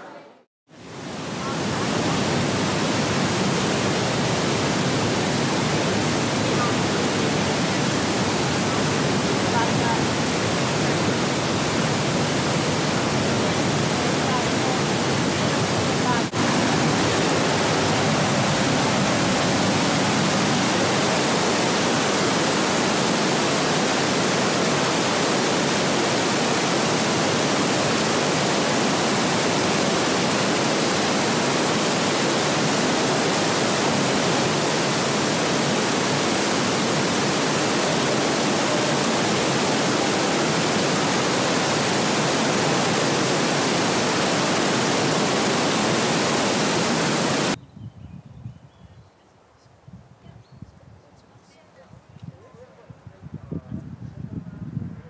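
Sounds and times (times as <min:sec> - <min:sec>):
waterfall rushing: 0:00.8 - 0:47.6.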